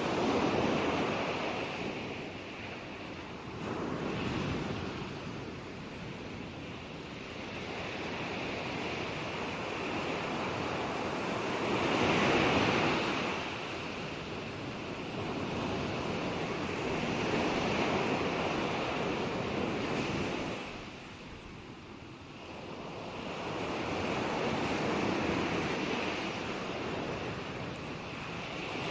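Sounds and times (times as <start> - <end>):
ocean waves washing onto shore: 0.0 - 28.9.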